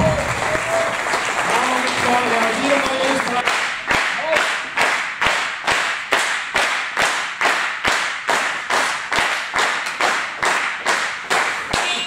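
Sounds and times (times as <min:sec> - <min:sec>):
audience clapping in unison: 0:00.0 - 0:12.0.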